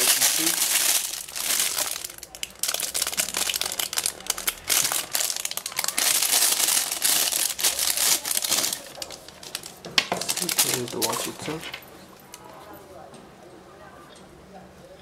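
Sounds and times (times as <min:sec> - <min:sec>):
plastic wrapping crinkling: 0:00.0 - 0:12.5.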